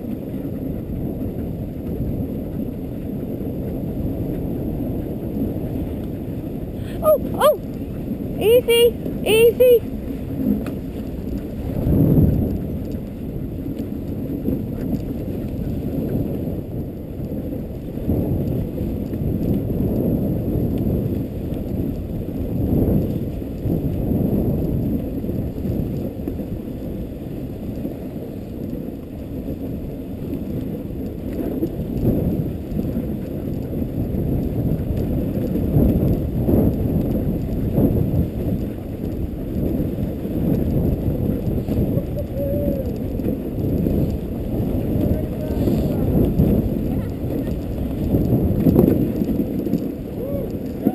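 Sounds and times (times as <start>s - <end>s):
sled runners gliding over snow: 0.0s - 50.9s.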